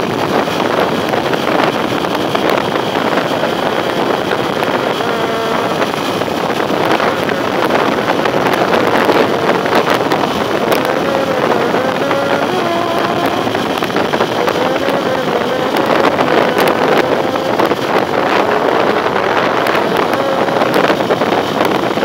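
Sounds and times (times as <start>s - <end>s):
motorcycle engine running: 0.0s - 22.0s
wind rush on microphone: 0.0s - 22.0s.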